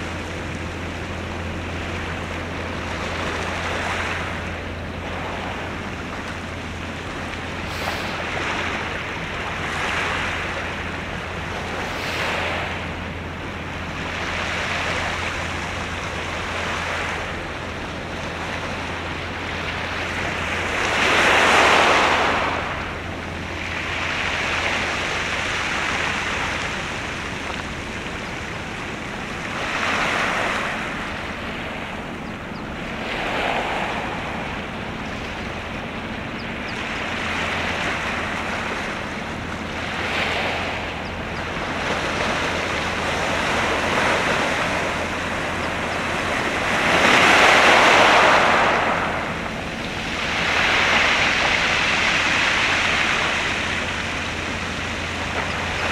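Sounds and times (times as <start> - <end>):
steady low hum: 0.0 - 55.9
waves washing in: 0.0 - 55.9.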